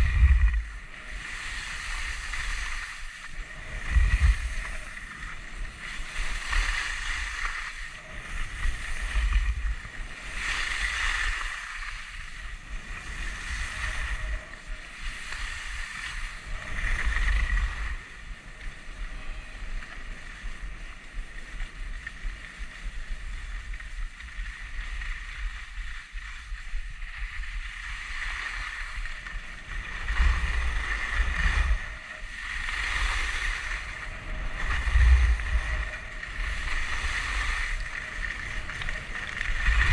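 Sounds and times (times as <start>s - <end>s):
wind buffeting microphone: 0.0s - 21.4s, 22.6s - 39.9s
skis scraping over snow: 0.0s - 39.9s.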